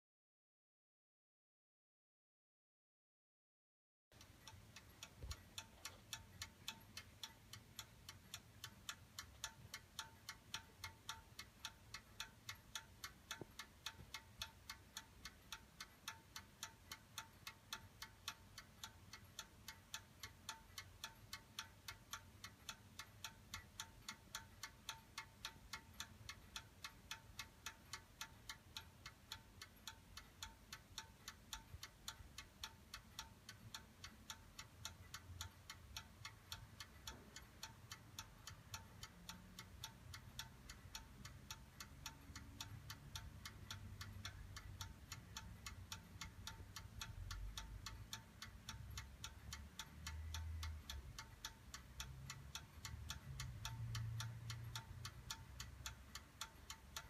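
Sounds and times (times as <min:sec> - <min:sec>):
clock ticking: 0:04.1 - 0:57.0.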